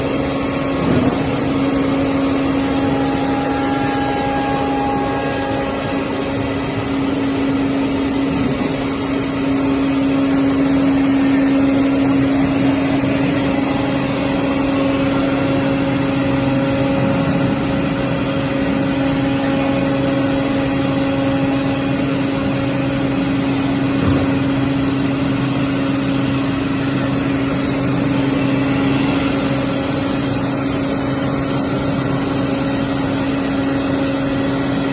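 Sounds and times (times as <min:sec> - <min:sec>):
wood cutting machine running: 0:00.0 - 0:34.9.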